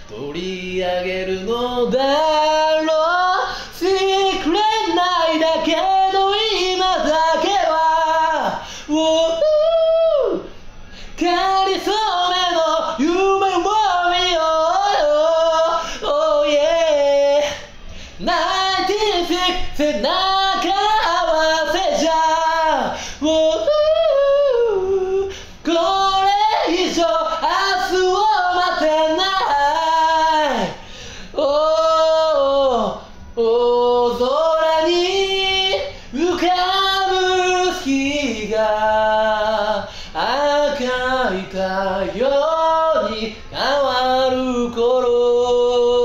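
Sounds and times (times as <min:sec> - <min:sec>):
a cappella singing: 0:00.0 - 0:46.0.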